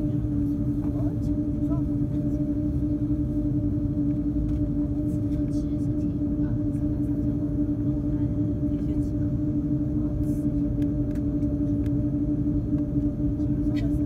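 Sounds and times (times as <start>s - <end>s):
aircraft engines idling: 0.0s - 14.0s
constant hum: 0.0s - 14.0s.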